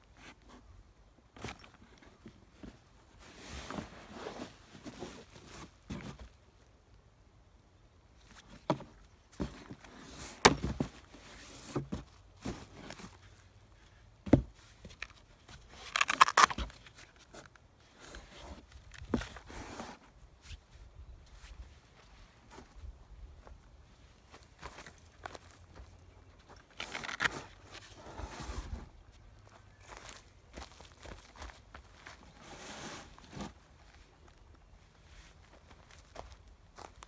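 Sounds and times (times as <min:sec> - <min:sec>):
rustling and scraping: 0:00.0 - 0:06.4, 0:08.2 - 0:23.6, 0:24.2 - 0:34.2.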